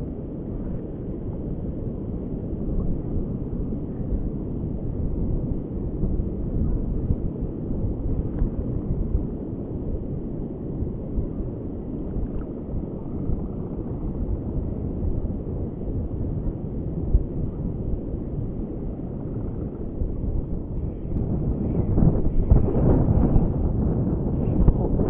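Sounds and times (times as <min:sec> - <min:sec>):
wind buffeting the microphone: 0:00.0 - 0:25.0.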